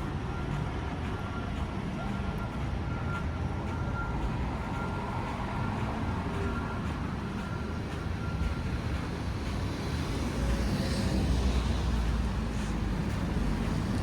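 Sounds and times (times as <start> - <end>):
street traffic rumbling: 0.0 - 14.0.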